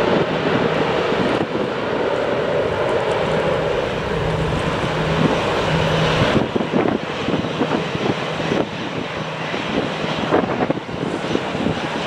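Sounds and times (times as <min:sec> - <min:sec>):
jet engines at takeoff power: 0:00.0 - 0:12.0
wind buffeting microphone: 0:00.0 - 0:12.0.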